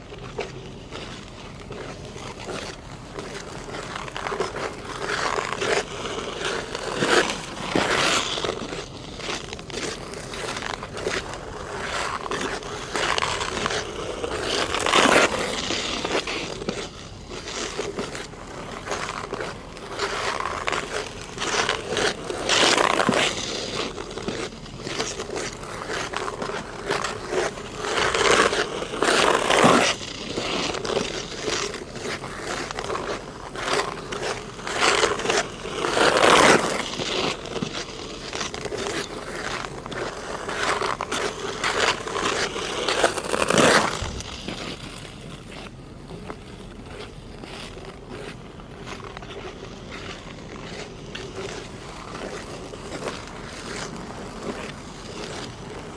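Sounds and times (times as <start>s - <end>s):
ice skate blades scraping ice: 0.0s - 55.9s.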